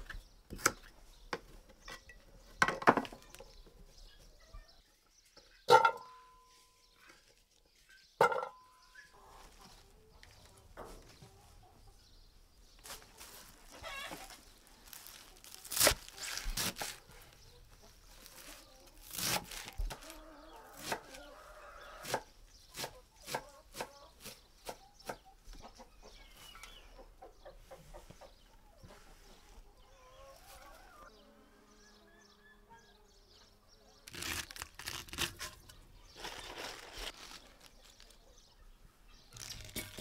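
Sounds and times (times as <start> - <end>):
chickens clucking: 1.0 - 16.3, 16.9 - 34.0, 35.6 - 40.0.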